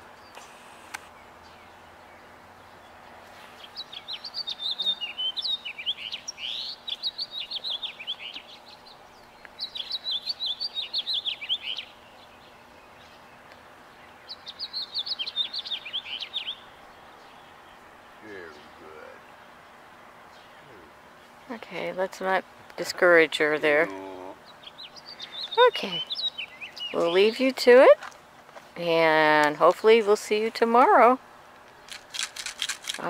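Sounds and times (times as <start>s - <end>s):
songbird chirping: 0.0s - 33.0s.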